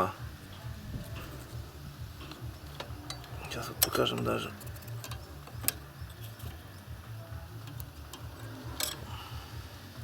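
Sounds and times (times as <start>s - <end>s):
metal engine parts clicking: 0.5s - 9.2s.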